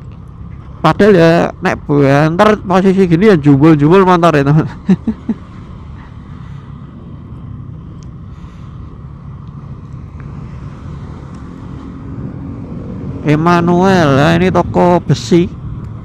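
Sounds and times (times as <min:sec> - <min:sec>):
motorcycle engine drone: 0:00.0 - 0:16.0
wind and road noise: 0:00.0 - 0:16.0.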